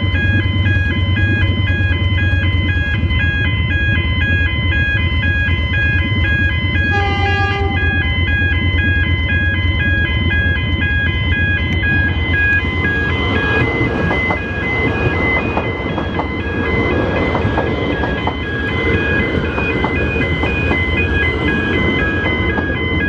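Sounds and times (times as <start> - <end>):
level crossing warning bells: 0.0 - 23.0
train rumbling and clattering: 0.0 - 23.0.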